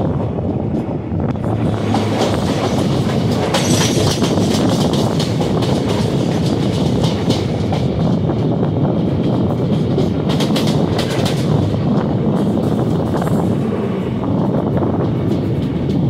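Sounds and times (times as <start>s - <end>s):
passing train: 0.0s - 16.0s
train wheels clattering over rails: 0.0s - 16.0s.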